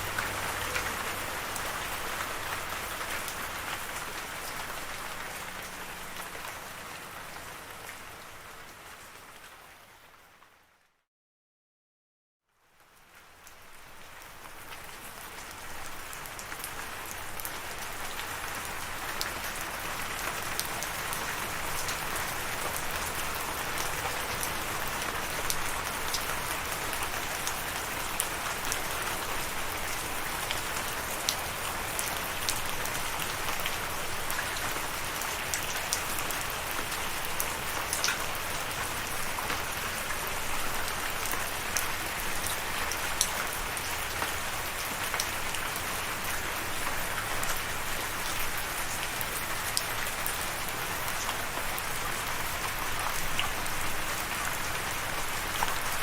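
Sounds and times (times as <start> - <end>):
raindrops ticking on a surface: 0.0 - 10.6, 12.5 - 56.0
steady rain falling: 0.0 - 10.8, 12.5 - 56.0.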